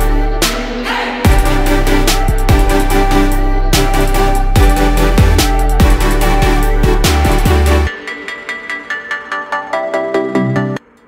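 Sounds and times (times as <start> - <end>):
electronic music with bass-drum beat: 0.0 - 11.0.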